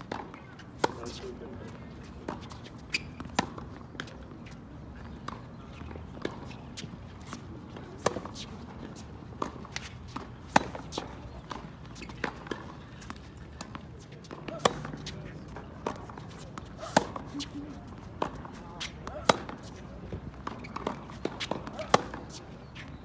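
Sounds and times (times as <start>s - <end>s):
tennis ball bouncing: 0.0s - 22.5s
racquets striking tennis ball: 0.0s - 22.9s.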